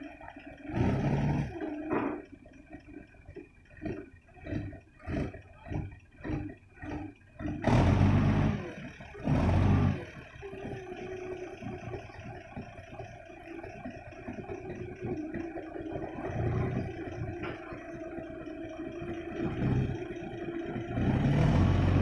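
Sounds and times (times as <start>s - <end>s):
forklift engine revving: 0.0s - 22.0s.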